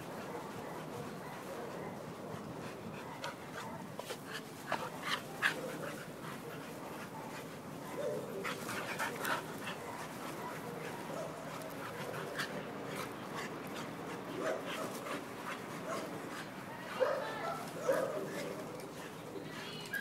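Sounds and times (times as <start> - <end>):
dogs play-wrestling noises: 0.0 - 20.0.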